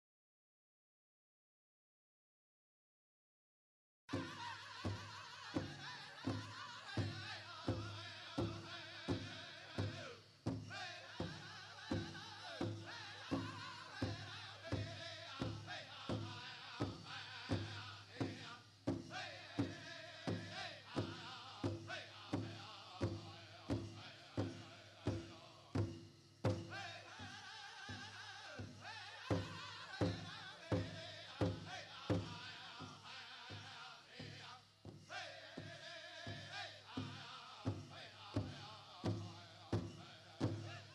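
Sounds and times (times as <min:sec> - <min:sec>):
group singing in high voices: 0:04.1 - 0:25.8, 0:26.6 - 0:40.9
big drum steady beat: 0:04.1 - 0:40.9.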